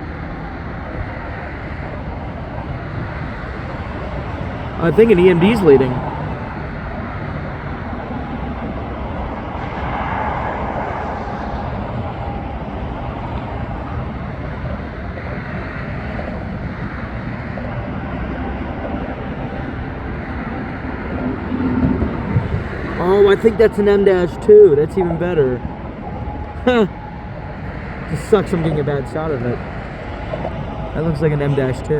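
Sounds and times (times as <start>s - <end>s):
diesel train rumble: 0.0s - 31.9s
highway traffic noise: 0.0s - 31.9s.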